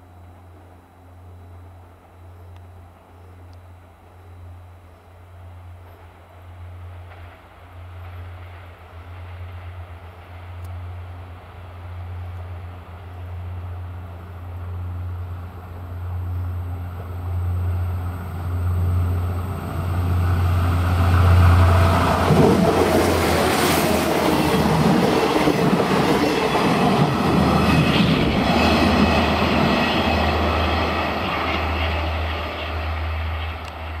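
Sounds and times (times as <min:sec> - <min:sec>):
diesel railcar engine drone: 0:00.0 - 0:34.0
rumbling wheel-and-rail noise: 0:04.9 - 0:34.0.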